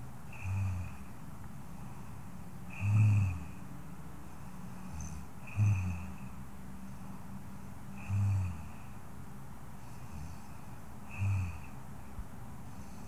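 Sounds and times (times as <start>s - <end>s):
faint steady hiss: 0.0s - 13.0s
woman snoring softly: 0.3s - 1.1s, 1.8s - 9.1s, 9.8s - 13.0s.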